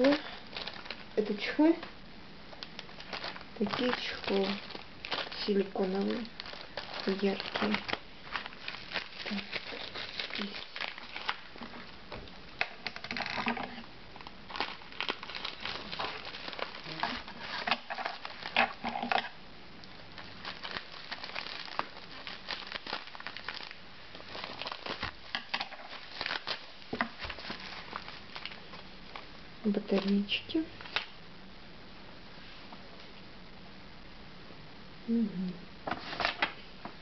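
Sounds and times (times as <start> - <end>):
bubble wrap crinkling: 0.0 - 31.3, 35.8 - 37.0.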